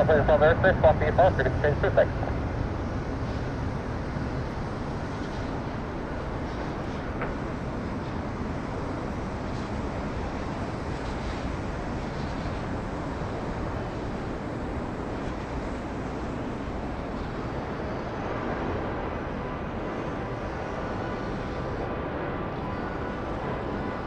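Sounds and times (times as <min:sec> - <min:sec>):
distant jet engines rumbling: 0:00.0 - 0:23.5.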